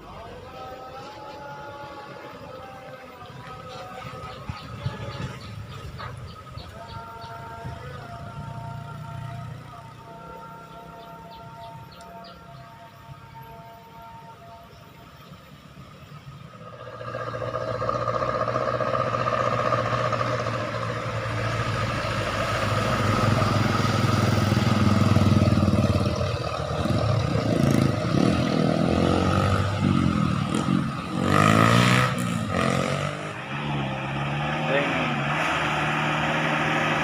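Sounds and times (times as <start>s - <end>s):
vehicles passing: 0.0s - 37.0s
vehicle engine running: 3.2s - 12.2s, 15.2s - 37.0s.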